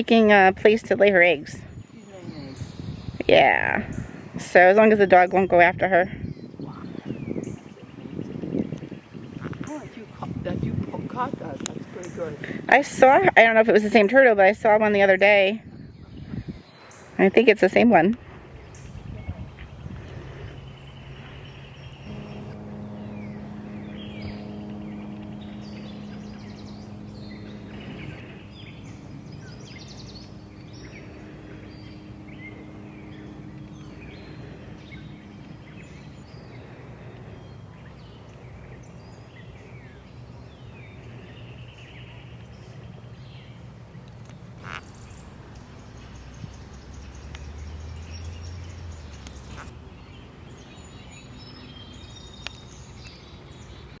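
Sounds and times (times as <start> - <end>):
birds chirping: 0.0 - 54.0
low steady hum: 8.7 - 54.0.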